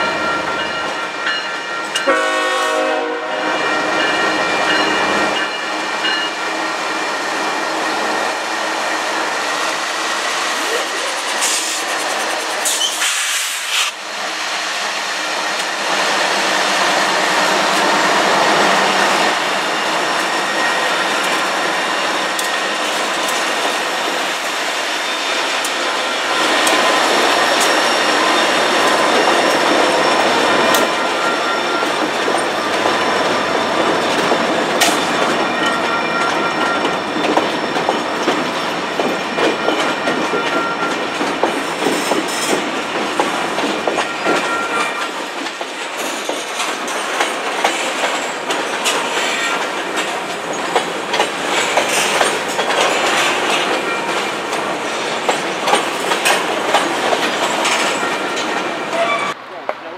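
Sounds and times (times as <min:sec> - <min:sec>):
diesel locomotive engine: 0:00.0 - 0:59.9
train wheels clickety-clack: 0:07.3 - 0:14.0, 0:15.4 - 0:59.8.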